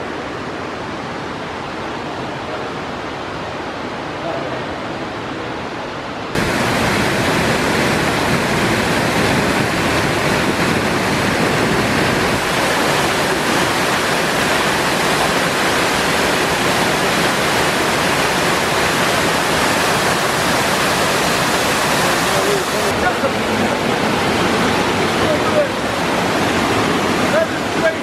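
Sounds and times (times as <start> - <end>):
waterfall rushing over rocks: 0.0 - 28.0.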